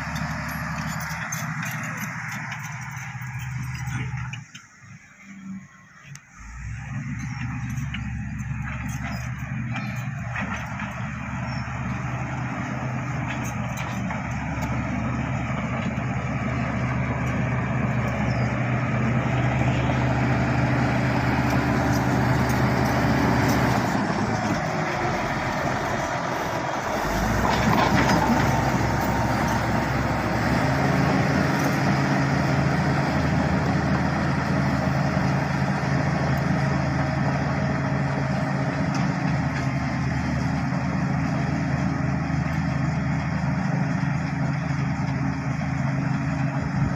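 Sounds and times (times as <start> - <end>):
bulldozer diesel engine running: 0.0 - 46.9.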